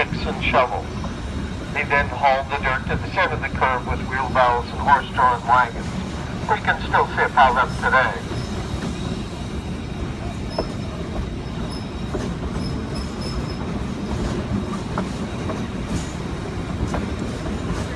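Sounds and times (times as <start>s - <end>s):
train cars rumbling on track: 0.0s - 17.9s.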